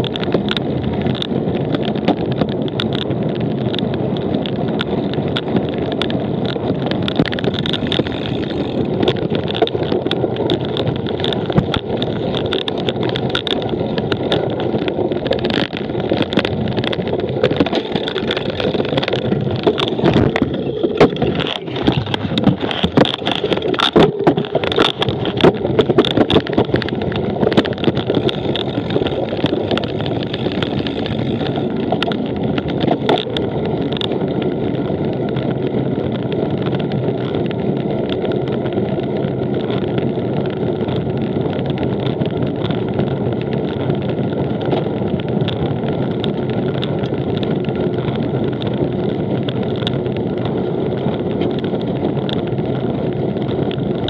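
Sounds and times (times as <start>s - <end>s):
bicycle tyres rolling: 0.0s - 54.0s
bike knocking and rattling: 0.0s - 54.0s
wind noise: 0.0s - 54.0s.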